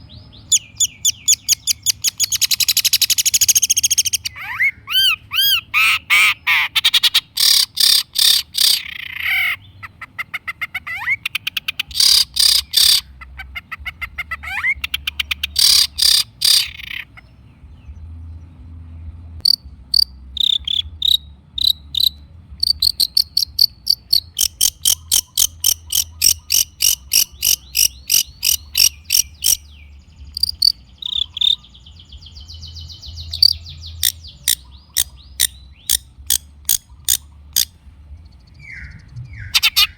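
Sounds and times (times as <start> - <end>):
bird singing scratchy notes: 0.0 - 39.9.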